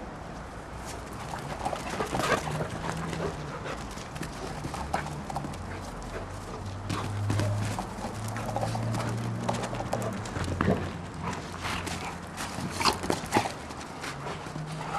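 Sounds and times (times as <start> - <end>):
dogs wrestling thuds and scuffles: 0.8 - 14.9.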